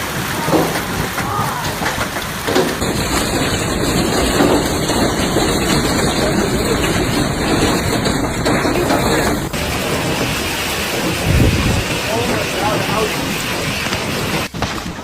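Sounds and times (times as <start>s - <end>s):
heavy rain: 0.0s - 15.0s
wind: 0.0s - 15.0s.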